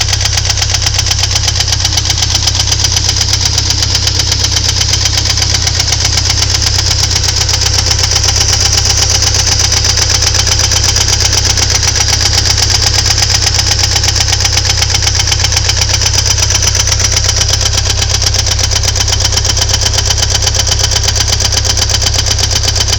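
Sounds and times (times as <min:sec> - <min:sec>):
car engine running: 0:00.0 - 0:22.9
rapid even engine knocking: 0:00.0 - 0:22.9.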